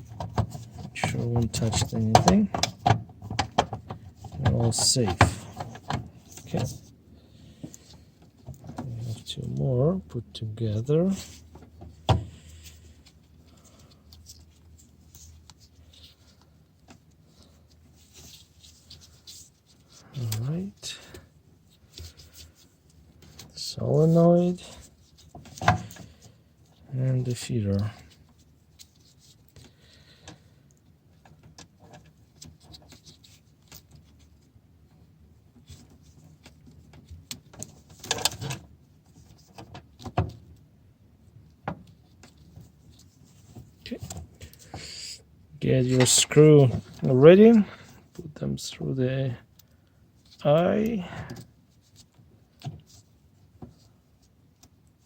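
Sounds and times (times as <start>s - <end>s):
faint scratching of wires: 0.0s - 2.8s, 3.9s - 10.0s, 10.6s - 39.8s, 41.9s - 55.0s.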